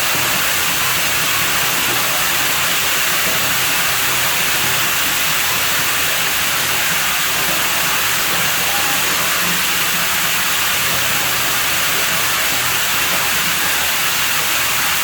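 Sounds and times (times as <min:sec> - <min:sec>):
pool water running and splashing: 0:00.0 - 0:15.0.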